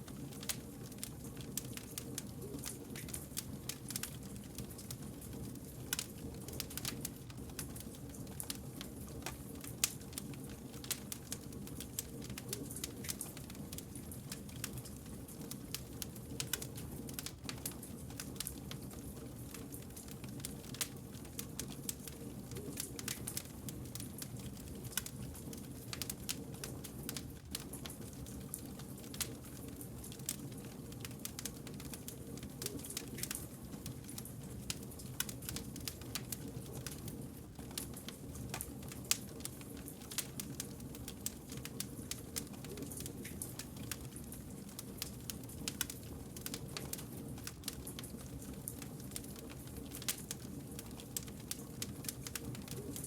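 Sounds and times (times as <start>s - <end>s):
low rumble of flames: 0.0s - 53.0s
wood fire crackling: 0.0s - 53.0s.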